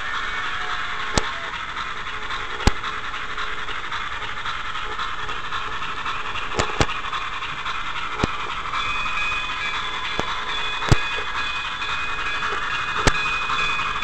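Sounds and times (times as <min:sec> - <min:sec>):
model train rolling on track: 0:00.0 - 0:14.0
wheels clicking over rail joints: 0:00.0 - 0:14.0.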